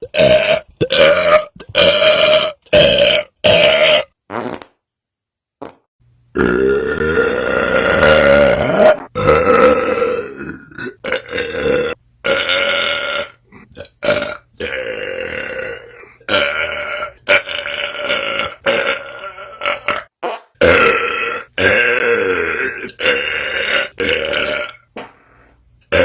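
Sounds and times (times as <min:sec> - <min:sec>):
long loud belches: 0:00.0 - 0:04.6, 0:06.4 - 0:24.9.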